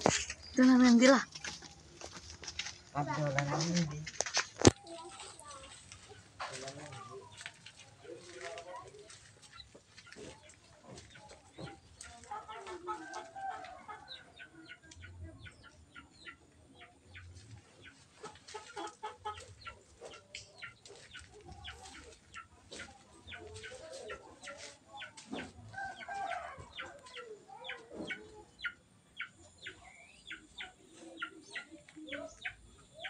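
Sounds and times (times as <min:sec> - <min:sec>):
low clucking calls: 0:00.0 - 0:33.0.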